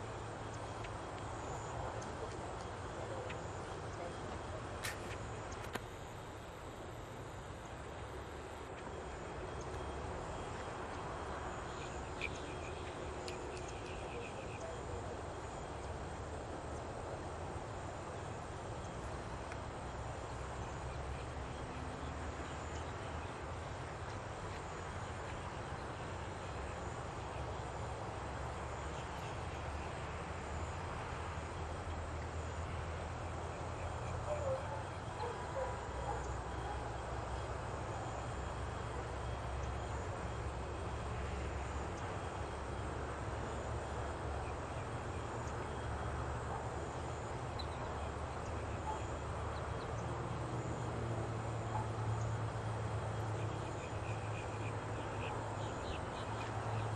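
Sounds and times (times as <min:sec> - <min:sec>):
low outdoor rumble: 0:00.0 - 0:56.9.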